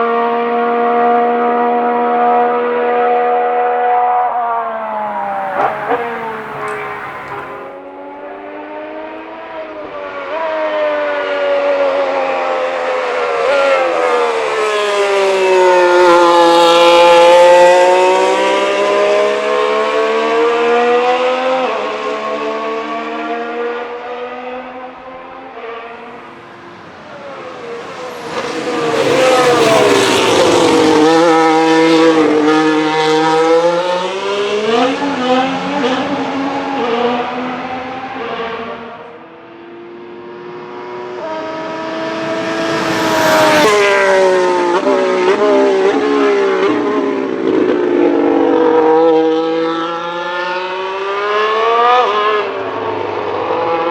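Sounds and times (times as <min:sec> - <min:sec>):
racing car engine passing: 0:00.0 - 0:11.1, 0:11.7 - 0:53.9.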